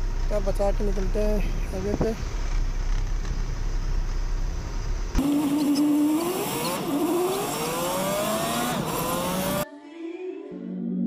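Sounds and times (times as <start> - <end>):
truck diesel engine accelerating: 0.0 - 9.6.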